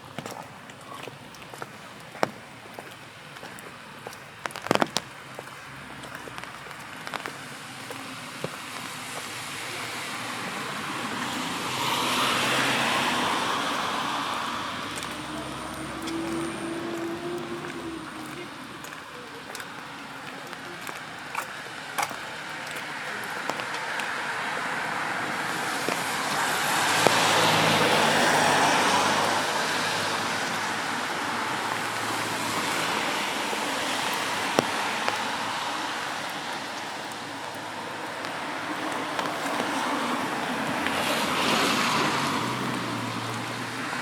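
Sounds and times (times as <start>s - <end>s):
tyres hissing on wet road: 0.0s - 44.0s.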